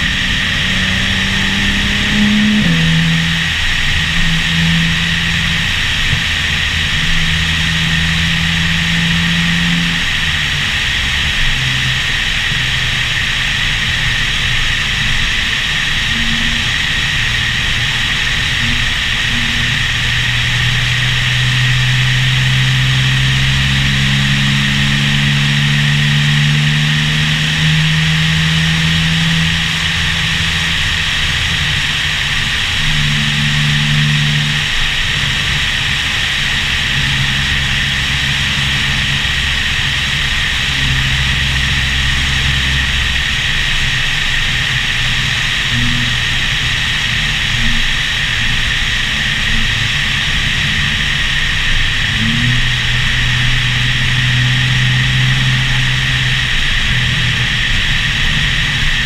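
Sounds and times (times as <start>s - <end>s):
car engine under way: 0.0s - 59.0s.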